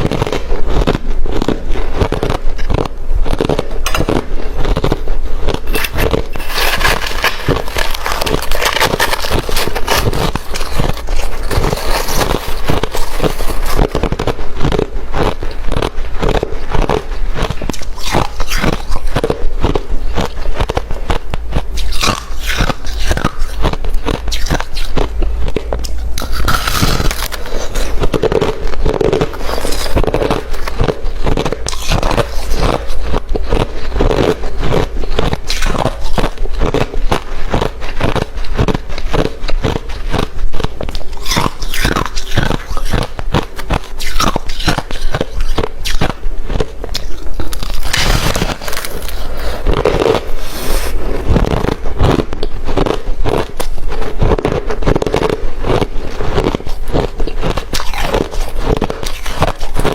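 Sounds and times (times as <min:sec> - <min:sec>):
chewing crushed ice: 0:00.0 - 0:59.9.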